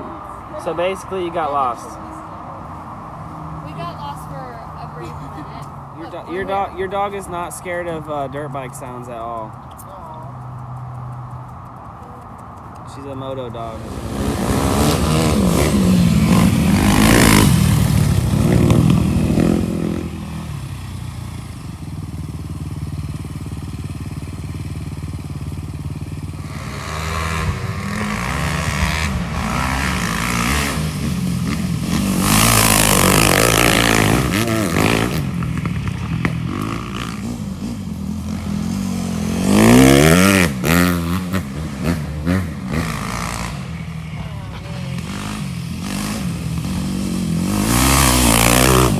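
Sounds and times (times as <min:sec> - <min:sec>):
dirt bike engines revving: 0:00.0 - 0:48.9.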